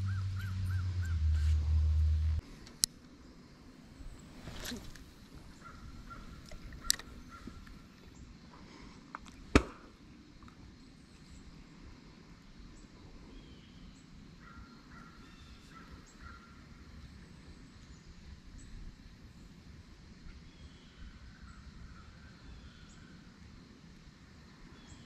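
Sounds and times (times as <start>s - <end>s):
faint outdoor background: 0.0s - 25.0s.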